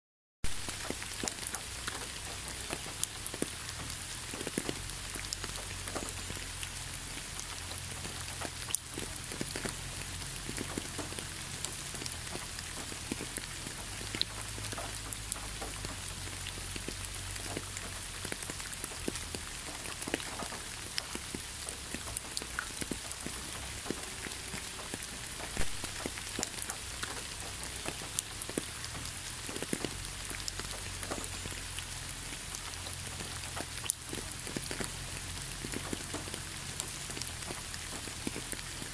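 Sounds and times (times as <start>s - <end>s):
steady rainfall: 0.4s - 38.9s.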